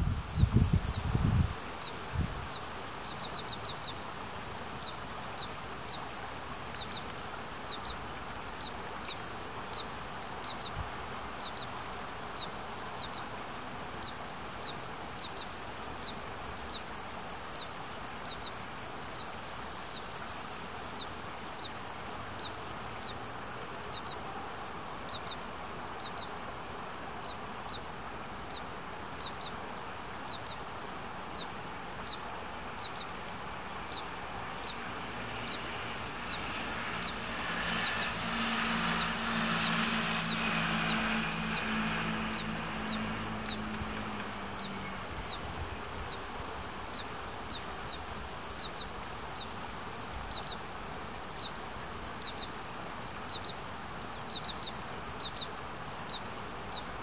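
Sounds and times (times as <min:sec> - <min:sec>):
steady high hiss: 0:00.0 - 0:39.3, 0:42.2 - 0:57.0.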